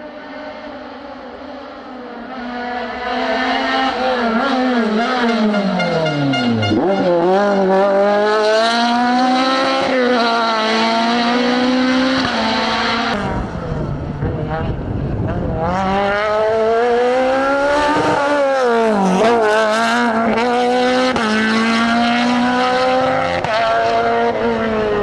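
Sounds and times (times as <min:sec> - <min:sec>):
rally car engine revving past: 0:00.1 - 0:25.0.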